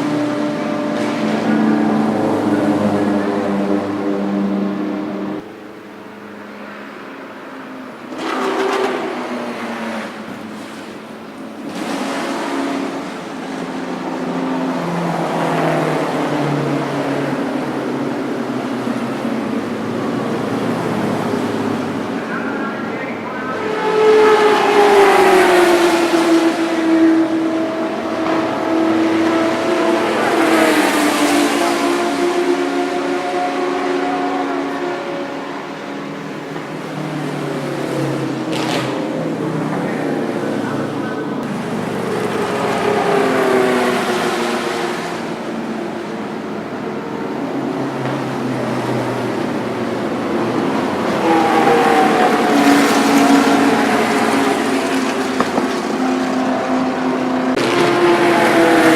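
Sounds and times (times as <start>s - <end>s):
race car engine at high revs: 0.0s - 58.9s.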